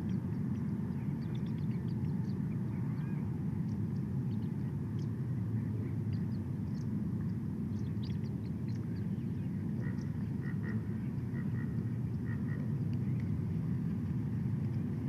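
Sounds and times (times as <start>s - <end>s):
birds chirping: 0.0s - 13.3s
low outdoor rumble: 0.0s - 15.0s.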